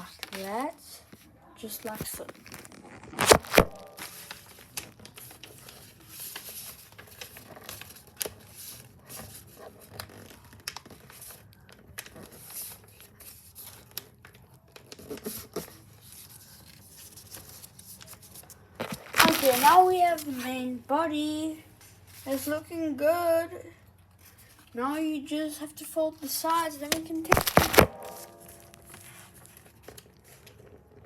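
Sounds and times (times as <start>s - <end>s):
paper rustling and crinkling: 0.0s - 20.7s, 26.2s - 31.0s.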